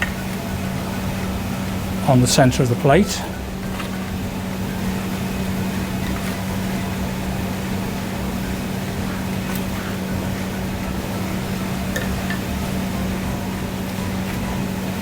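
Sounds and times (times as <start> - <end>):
ventilation machinery hum and rush: 0.0 - 15.0.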